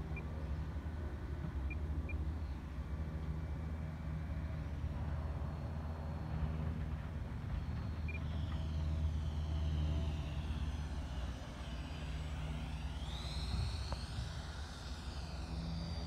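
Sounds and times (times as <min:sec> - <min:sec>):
model jet fan whining: 0:00.0 - 0:16.0.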